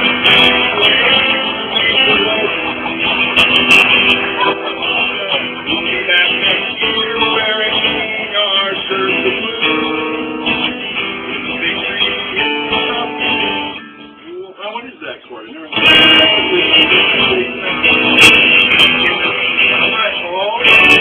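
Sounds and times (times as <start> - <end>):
man singing: 0.0 - 14.8, 15.4 - 21.0
acoustic guitar strumming: 0.0 - 21.0.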